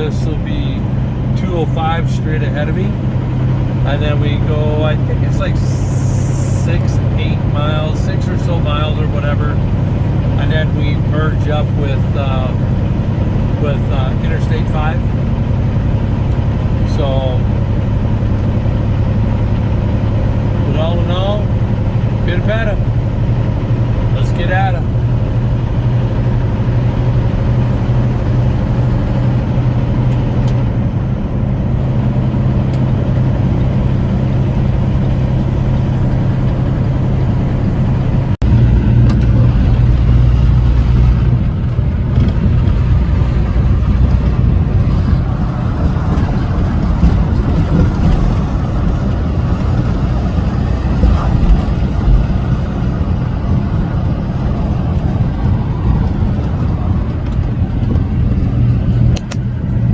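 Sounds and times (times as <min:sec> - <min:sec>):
road noise: 0:00.0 - 0:59.9
truck diesel engine running: 0:00.0 - 0:59.9.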